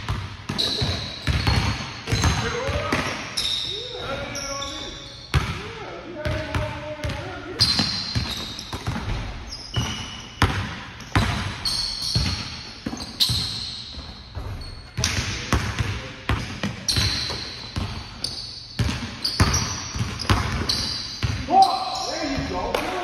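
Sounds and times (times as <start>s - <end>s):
basketball bouncing on wooden floor: 0.0s - 3.2s, 5.3s - 5.6s, 6.2s - 21.4s
sneakers squeaking: 0.0s - 23.0s.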